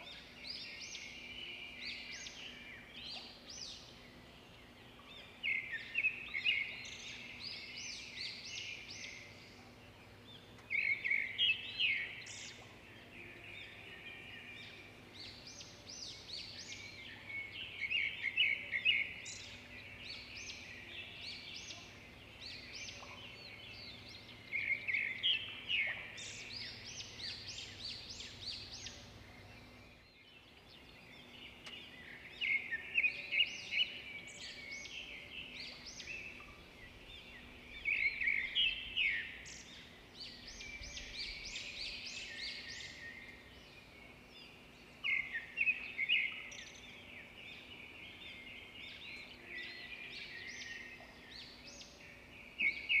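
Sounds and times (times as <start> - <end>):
faint low steady hum: 0.0 - 53.0
wild birds chirping: 0.0 - 53.0.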